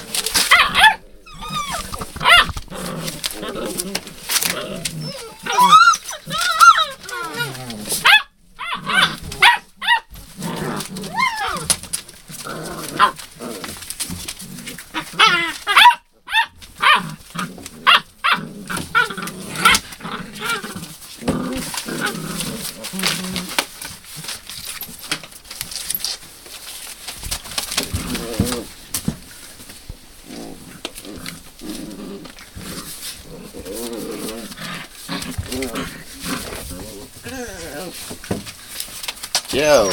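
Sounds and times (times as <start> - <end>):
paws scrabbling on newspaper: 0.0 - 39.9
puppies growling and yipping: 0.0 - 39.9.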